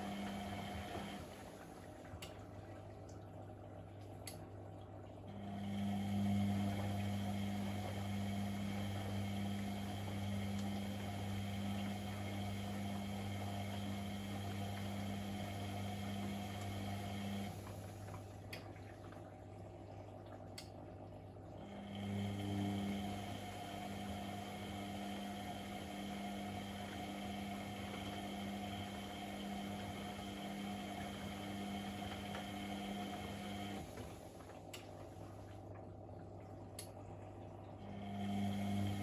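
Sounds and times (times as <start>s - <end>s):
washing machine pump humming: 0.0s - 39.0s.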